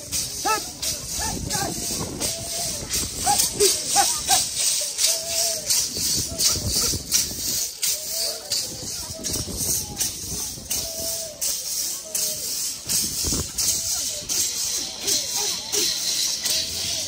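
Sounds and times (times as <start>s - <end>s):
maracas shaking: 0.0s - 17.0s
voices chanting: 0.0s - 17.0s.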